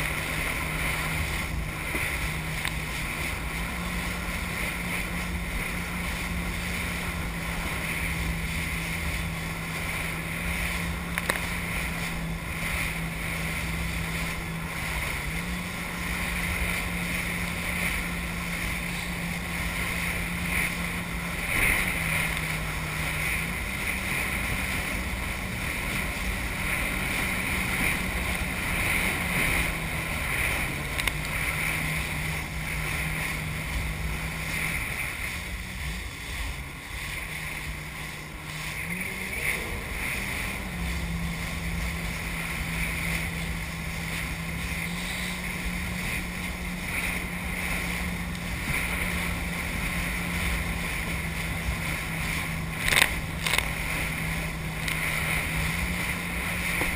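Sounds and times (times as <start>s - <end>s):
jet ski engine running: 0.0s - 56.9s
water spray rushing: 0.0s - 56.9s
wind hiss: 0.0s - 56.9s.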